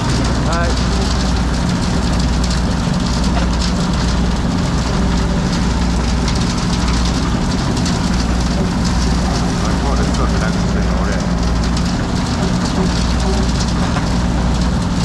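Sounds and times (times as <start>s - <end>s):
drilling rig running: 0.0s - 15.0s.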